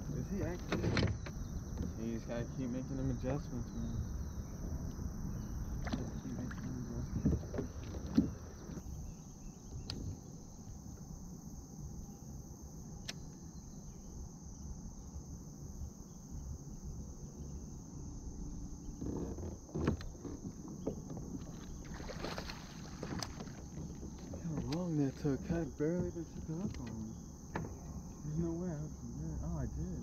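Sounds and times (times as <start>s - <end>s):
water: 0.0s - 12.4s, 16.9s - 30.0s
high insect drone: 0.0s - 30.0s
low rumble of wind: 0.0s - 30.0s.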